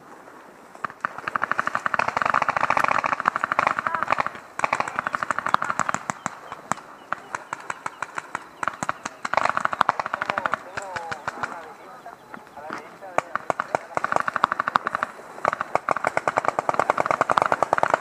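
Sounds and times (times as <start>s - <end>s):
paintball markers firing: 0.9s - 11.8s, 12.6s - 18.0s.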